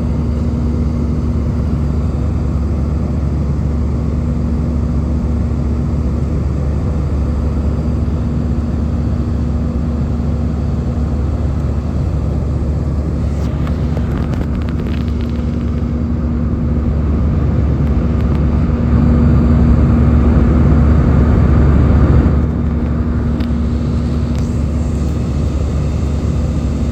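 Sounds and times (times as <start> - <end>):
airplane cabin engine drone: 0.0 - 26.9.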